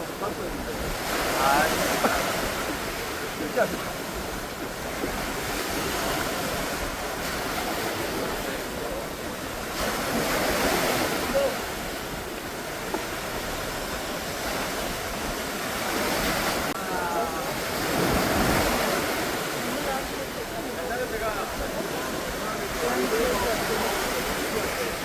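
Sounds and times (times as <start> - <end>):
sea waves washing ashore: 0.0 - 25.0.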